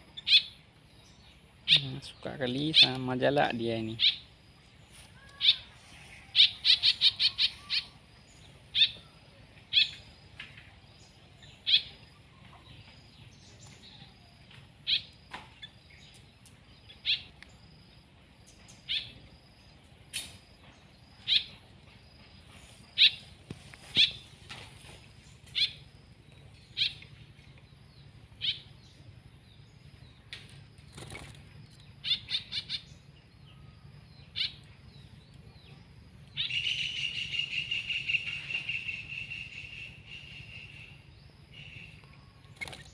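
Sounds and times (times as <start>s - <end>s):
songbird chirping: 0.0s - 42.9s.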